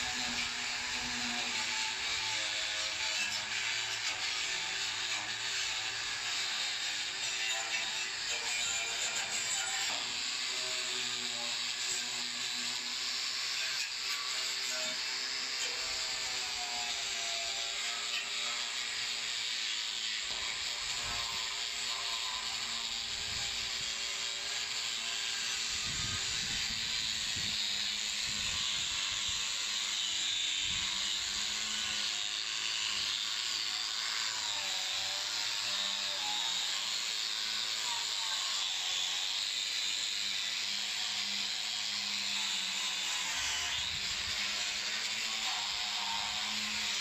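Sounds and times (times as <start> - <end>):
angle grinder on metal door: 0.0 - 47.0.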